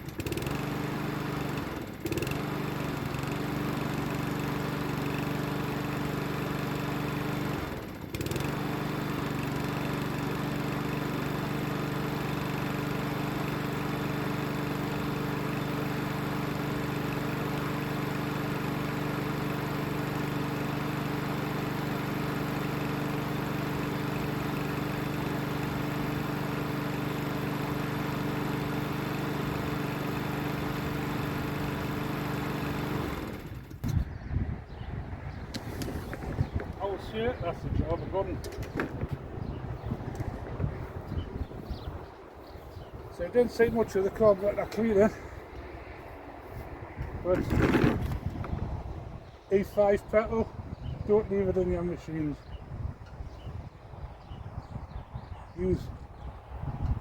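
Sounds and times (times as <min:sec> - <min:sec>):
lawnmower engine running: 0:00.0 - 0:34.1, 0:34.7 - 0:52.6.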